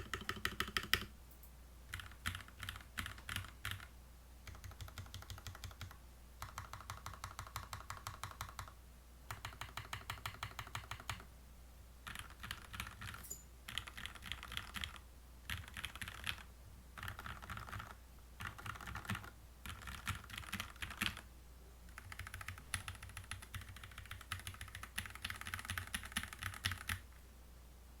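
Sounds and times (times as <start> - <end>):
mechanical keyboard typing: 0.0 - 1.1, 1.9 - 11.3, 12.0 - 21.2, 21.9 - 27.0.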